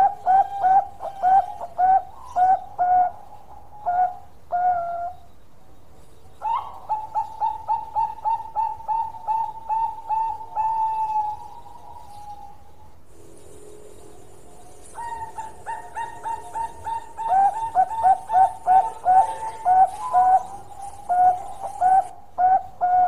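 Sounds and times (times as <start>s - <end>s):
dove cooing: 0.0s - 5.2s, 6.4s - 23.0s.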